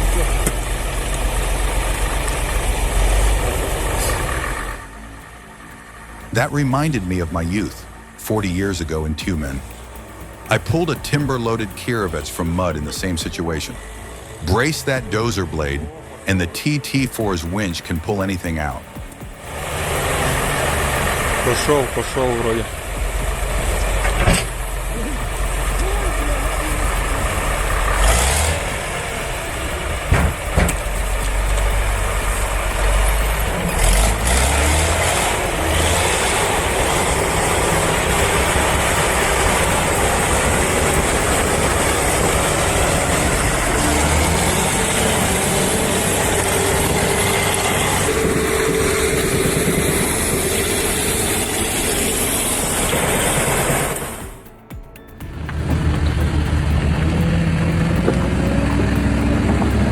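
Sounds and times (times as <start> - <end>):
diesel engine under load: 0.0 - 54.6, 55.2 - 59.9.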